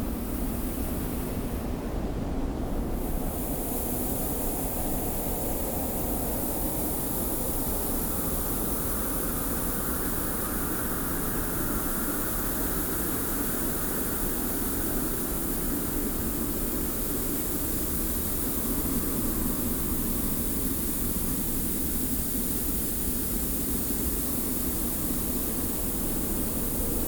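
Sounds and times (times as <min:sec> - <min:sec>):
wind-blown sand hissing: 0:00.0 - 0:27.0.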